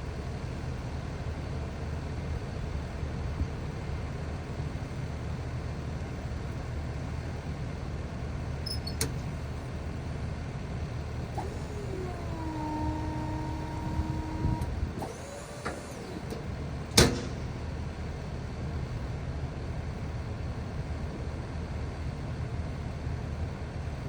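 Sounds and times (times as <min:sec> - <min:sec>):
engine running: 0:00.0 - 0:22.2.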